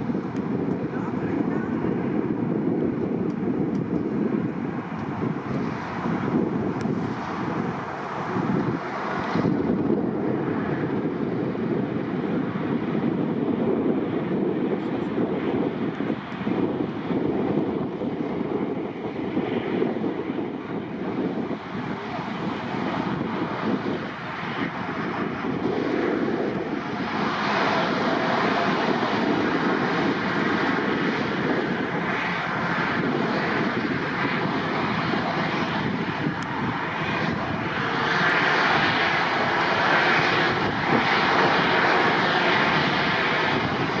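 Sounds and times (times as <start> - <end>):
jet engine rushing noise: 0.0 - 44.0.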